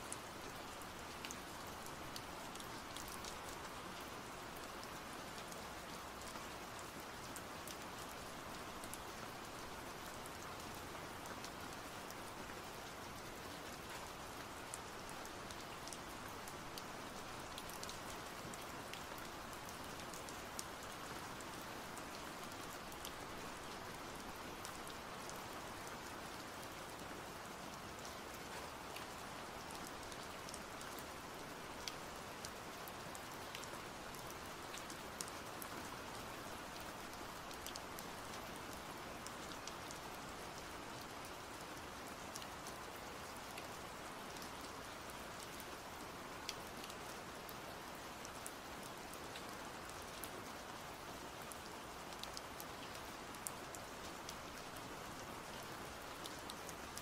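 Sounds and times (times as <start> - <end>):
steady rain hiss: 0.0 - 57.0
raindrops ticking on surface: 0.1 - 57.0.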